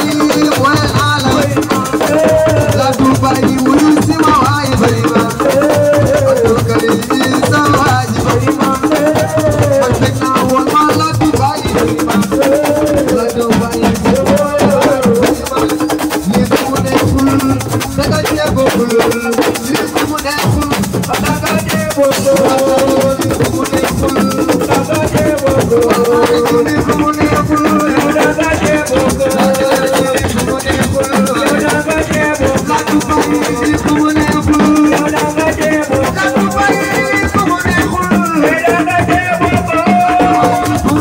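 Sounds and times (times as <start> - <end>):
shaker and drum rhythm: 0.0 - 41.0.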